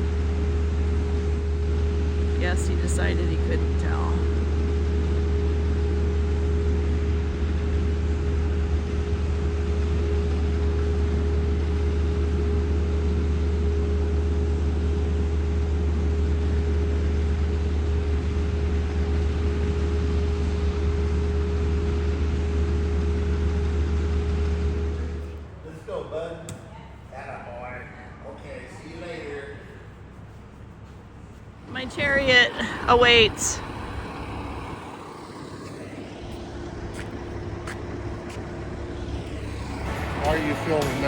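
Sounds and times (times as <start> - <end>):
machinery droning: 0.0 - 26.2, 27.2 - 41.0.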